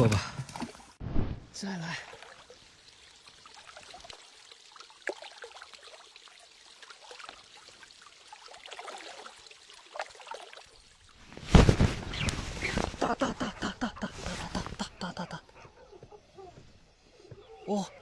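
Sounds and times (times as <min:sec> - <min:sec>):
river water trickling: 0:00.0 - 0:01.0, 0:01.6 - 0:18.0.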